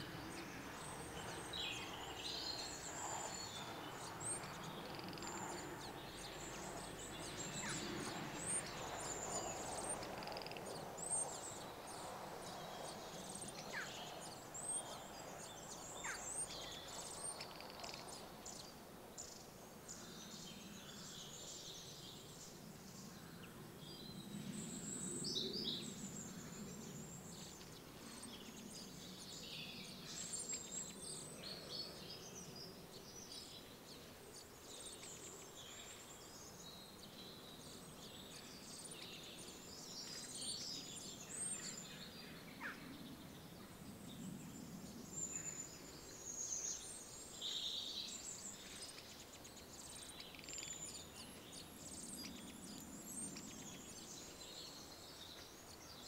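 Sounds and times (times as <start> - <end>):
birds singing and calling: 0.0 - 56.0.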